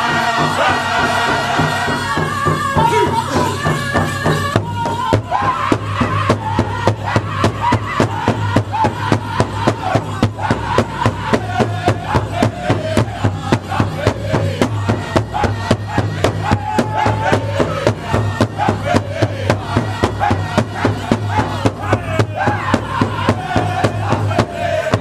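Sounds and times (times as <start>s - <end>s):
large drum fast steady beat: 0.0s - 25.0s
men singing: 0.0s - 25.0s.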